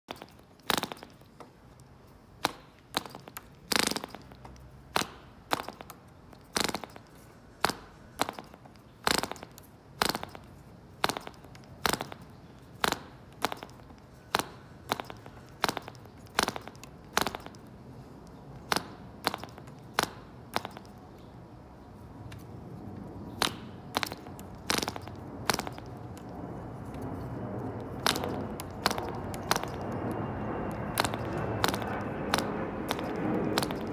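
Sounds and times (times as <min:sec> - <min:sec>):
propeller flick snaps: 0:00.1 - 0:21.4, 0:22.2 - 0:33.9.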